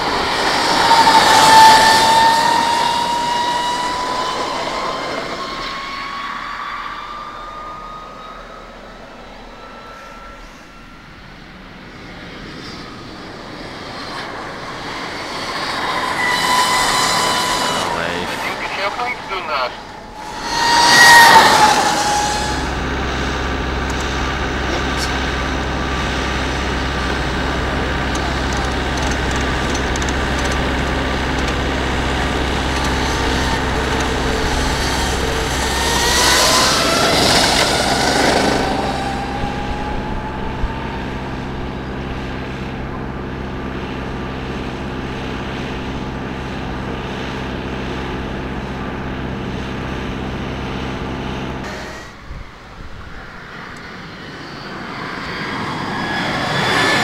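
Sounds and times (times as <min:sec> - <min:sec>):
steady low hum: 0:00.0 - 0:54.4
electric motorcycle motor whine: 0:00.0 - 0:57.0
wind and tyre noise: 0:00.0 - 0:57.0.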